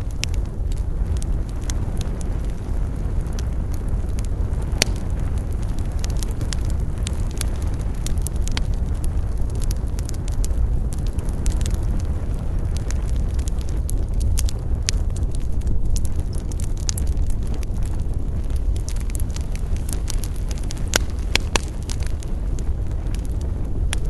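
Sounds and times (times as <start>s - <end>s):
campfire flames rushing: 0.0s - 24.0s
fire crackling and popping: 0.0s - 24.0s.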